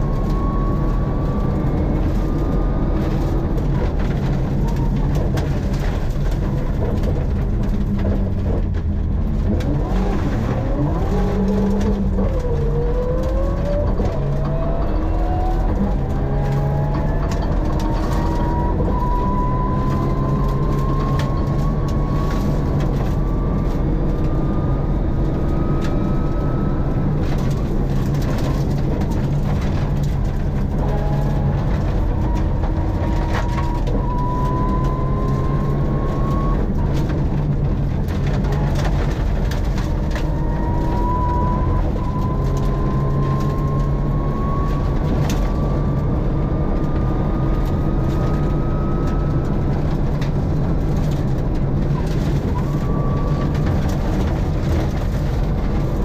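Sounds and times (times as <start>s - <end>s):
car engine under load: 0.0s - 56.0s
high engine whine: 0.0s - 56.0s.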